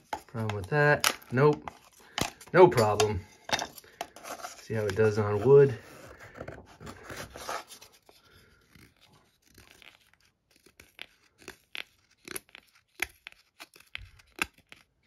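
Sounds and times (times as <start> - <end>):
knife blade shaving wood: 0.0 - 14.9.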